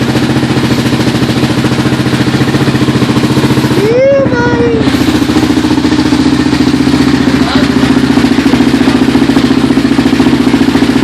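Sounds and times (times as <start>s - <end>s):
quad engine idling: 0.0s - 11.0s.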